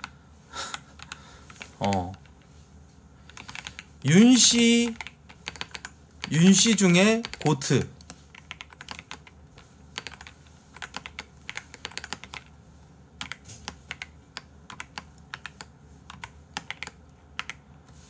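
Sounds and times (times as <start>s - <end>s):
computer keyboard typing: 0.0s - 2.4s, 3.2s - 12.5s, 13.2s - 17.7s.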